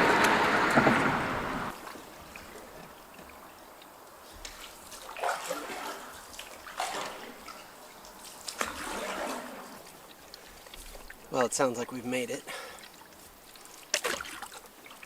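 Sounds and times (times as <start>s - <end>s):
paddle splashing in water: 0.0s - 15.0s
faint water trickle: 1.7s - 15.0s
water dripping: 1.7s - 15.0s.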